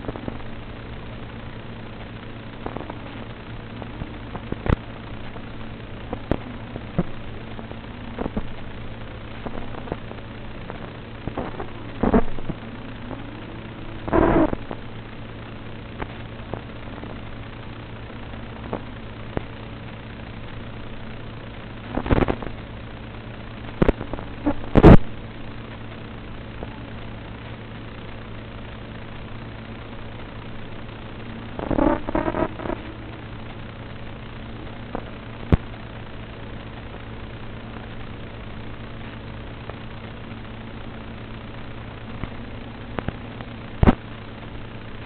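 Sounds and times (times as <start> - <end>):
low hum and hiss: 0.0 - 45.0
static clicks and crackles: 0.0 - 45.0.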